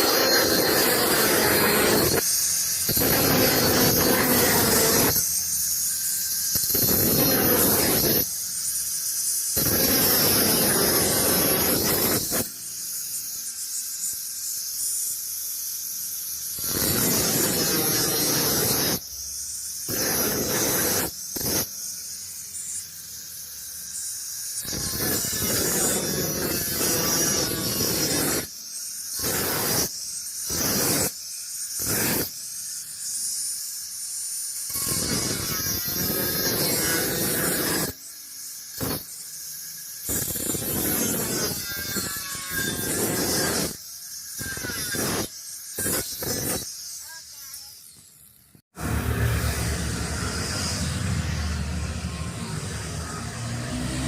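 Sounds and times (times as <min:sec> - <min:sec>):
harsh metalworking bursts: 0:00.0 - 0:54.0
steady high-pitched whine: 0:00.0 - 0:54.0.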